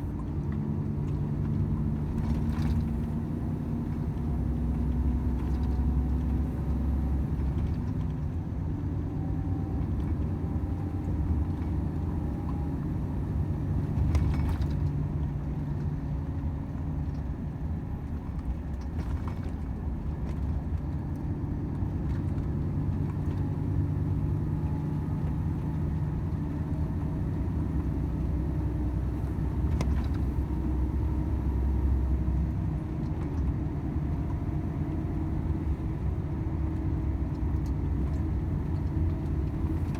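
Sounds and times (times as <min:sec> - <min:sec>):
road noise: 0:00.0 - 0:39.9
truck diesel engine rumble: 0:00.0 - 0:39.9.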